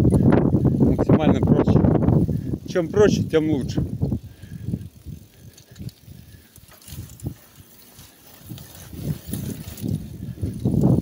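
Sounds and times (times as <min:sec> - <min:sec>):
bicycle bumping on dirt track: 0:00.0 - 0:11.0
bike frame rattling clicks: 0:00.0 - 0:11.0.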